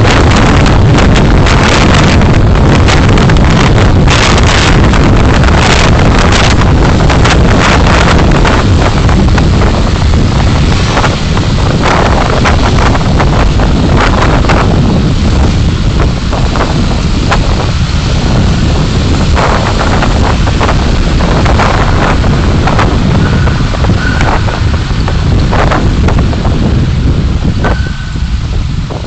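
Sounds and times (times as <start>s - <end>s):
road and wind rumble: 0.0s - 29.0s
wind buffeting microphone: 0.0s - 29.0s.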